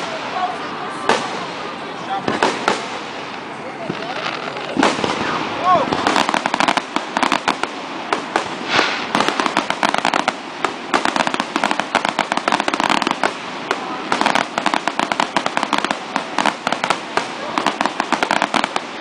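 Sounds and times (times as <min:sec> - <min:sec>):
fireworks crackling and banging: 0:00.0 - 0:19.0.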